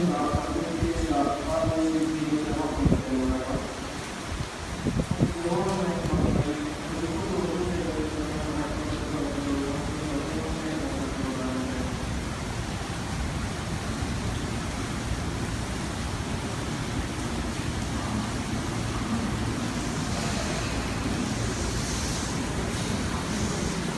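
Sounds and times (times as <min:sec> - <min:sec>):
heavy rain pouring: 0:00.0 - 0:23.9.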